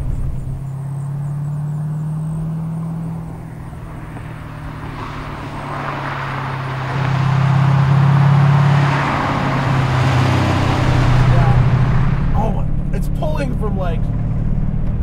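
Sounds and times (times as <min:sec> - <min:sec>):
race car engine: 0:00.0 - 0:15.0.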